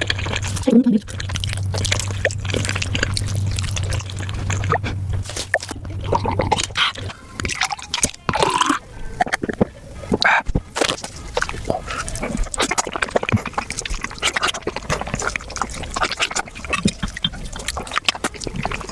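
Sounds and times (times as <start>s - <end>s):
low steady hum: 0.0s - 18.9s
wet sticky chewing and smacking: 0.0s - 18.9s.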